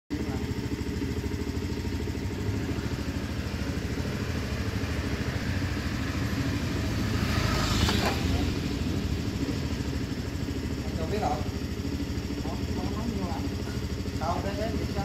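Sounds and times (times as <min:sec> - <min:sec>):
engine running low rumble: 0:00.1 - 0:15.0.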